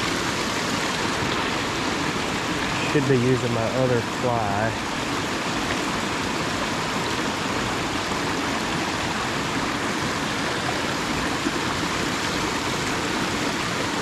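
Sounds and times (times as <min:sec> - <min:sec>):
river water splashing over rocks: 0:00.0 - 0:14.0.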